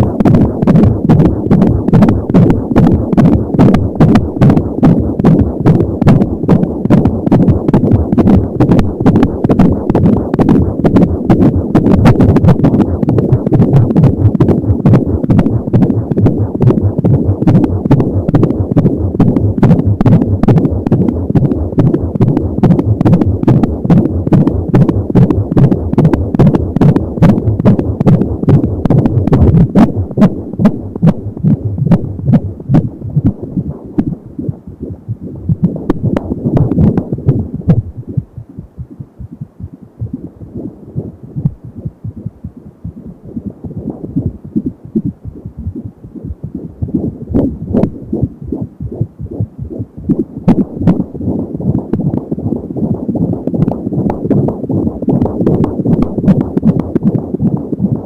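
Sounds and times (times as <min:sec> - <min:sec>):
fetal heartbeat whooshing pulses: 0:00.0 - 0:58.0.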